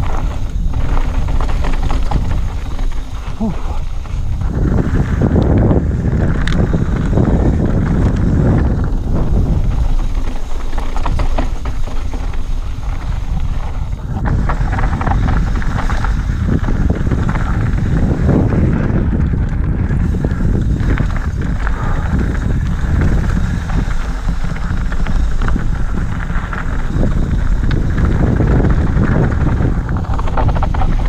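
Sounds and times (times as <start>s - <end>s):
bike rattling: 0.0s - 31.0s
tyres over loose stones: 0.0s - 31.0s
wind buffeting microphone: 0.0s - 31.0s.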